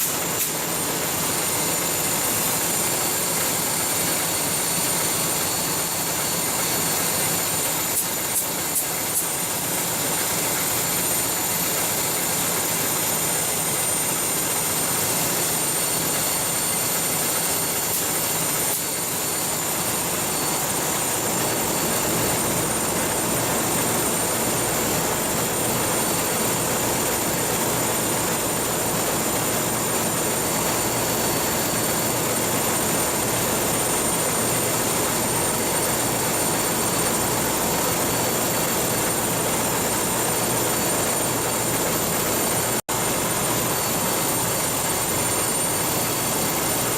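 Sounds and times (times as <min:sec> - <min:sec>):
thin high whine: 0:00.0 - 0:46.9.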